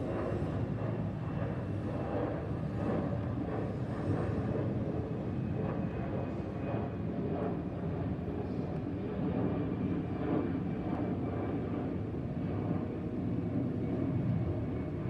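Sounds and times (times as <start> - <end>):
jet airliner rumble overhead: 0.0 - 15.0.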